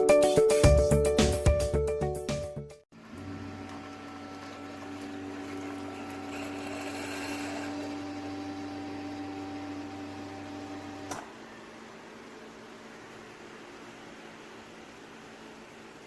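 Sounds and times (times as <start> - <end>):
coffee maker pump humming: 2.9 - 16.0.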